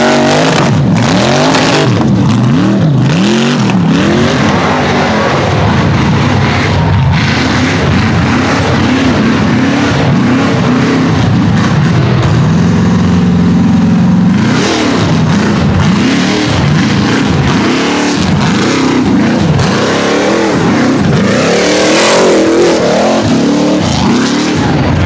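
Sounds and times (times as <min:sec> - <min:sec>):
race vehicle engine revving: 0:00.0 - 0:25.0.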